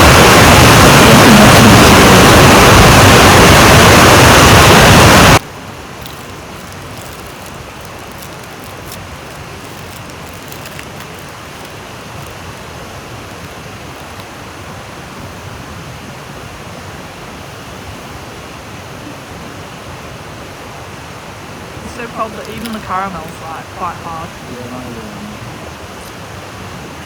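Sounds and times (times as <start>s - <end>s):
river and waterfall rushing: 0.0s - 27.0s.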